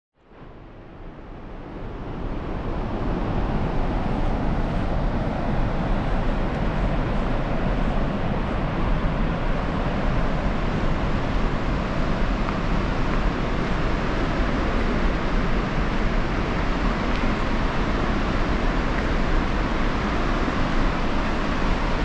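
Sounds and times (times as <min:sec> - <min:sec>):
waterfall rushing: 0:02.8 - 0:22.0.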